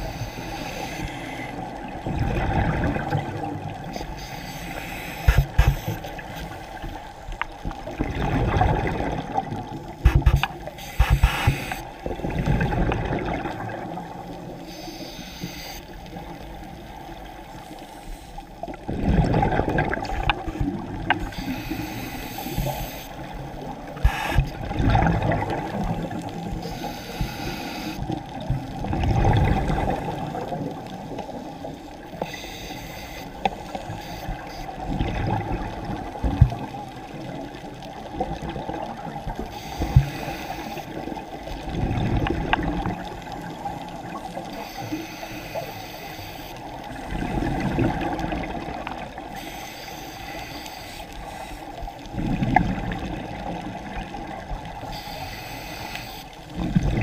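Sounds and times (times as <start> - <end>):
underwater bubbles gurgling: 0.0 - 57.0.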